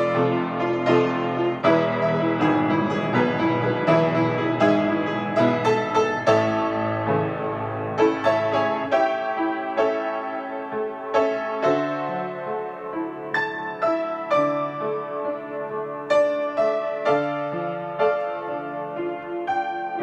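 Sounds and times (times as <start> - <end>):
grand piano chords ringing: 0.0 - 20.0.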